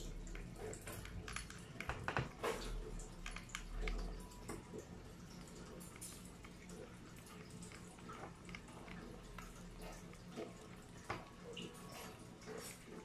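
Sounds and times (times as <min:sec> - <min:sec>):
cat eating wet food: 0:00.0 - 0:13.0.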